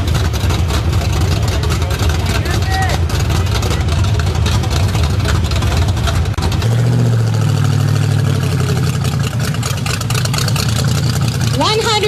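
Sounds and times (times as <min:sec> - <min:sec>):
loud car engine revving: 0:00.0 - 0:12.0.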